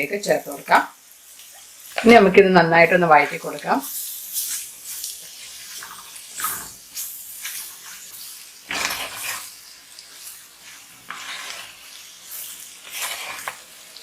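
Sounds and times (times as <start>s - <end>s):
onions sizzling in oil: 0.0s - 14.0s
spoon scraping a pan: 1.9s - 14.0s.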